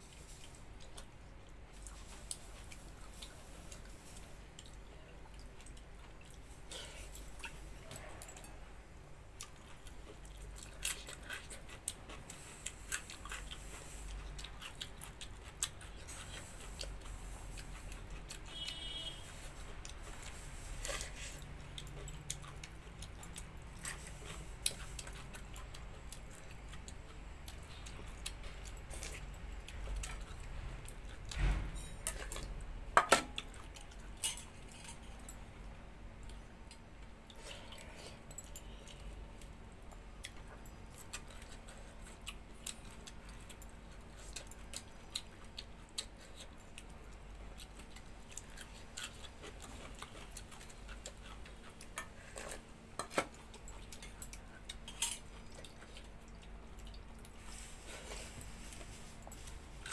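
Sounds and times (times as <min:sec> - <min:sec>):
quiet chewing: 0:00.0 - 0:59.9.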